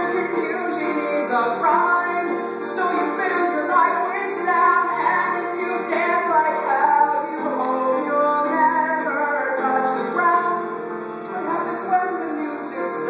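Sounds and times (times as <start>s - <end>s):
woman singing: 0.0s - 10.6s
instrumental accompaniment: 0.0s - 13.0s.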